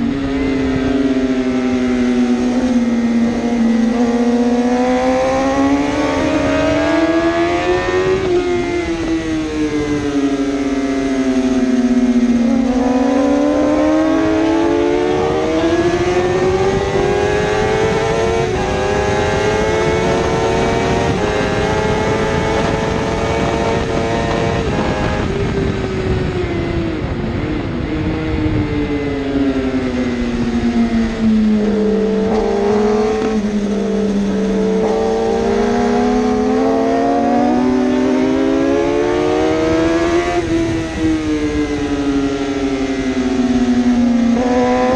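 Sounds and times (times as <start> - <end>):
racing motorcycle engine high revs: 0.0 - 28.2, 29.0 - 44.9.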